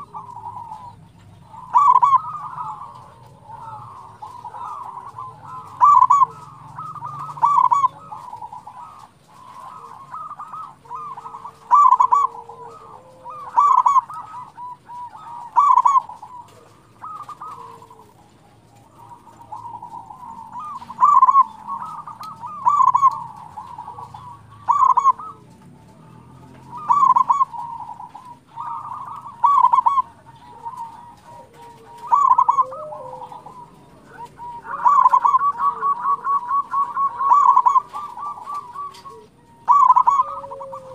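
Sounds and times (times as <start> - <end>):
dove bubbling coo: 0.0 - 40.9
soft continuous cooing: 0.0 - 40.9.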